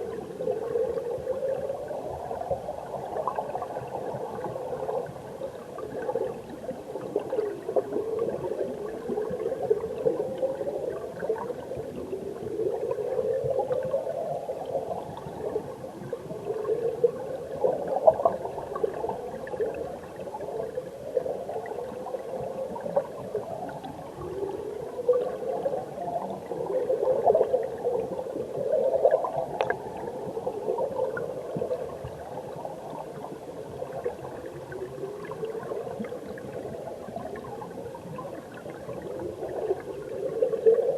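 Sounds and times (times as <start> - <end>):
stream water gurgling underwater: 0.0 - 40.9.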